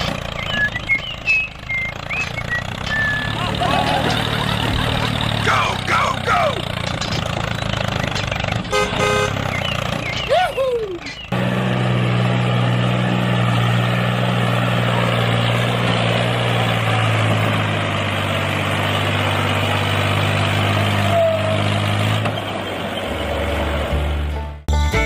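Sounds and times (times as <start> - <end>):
tractor engine droning: 0.0 - 25.0.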